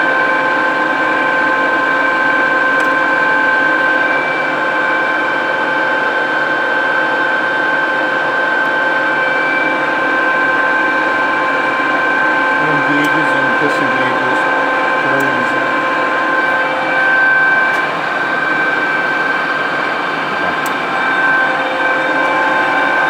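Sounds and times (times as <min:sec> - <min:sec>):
lathe gear whine: 0:00.0 - 0:23.0
mechanical hum: 0:00.0 - 0:23.0.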